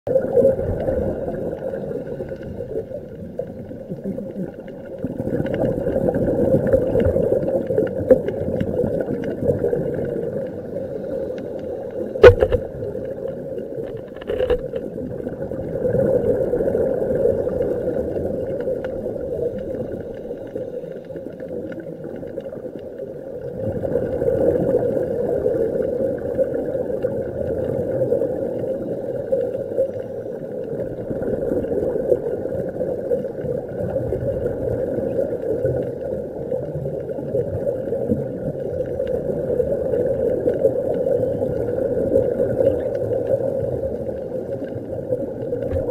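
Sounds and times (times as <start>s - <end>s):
muffled underwater hum: 0.1s - 45.9s.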